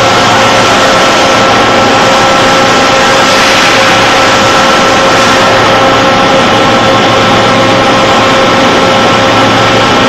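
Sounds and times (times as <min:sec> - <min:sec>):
low hum: 0:00.0 - 0:10.0
machine mechanical drone: 0:00.0 - 0:10.0
steady whining tones: 0:00.0 - 0:10.0.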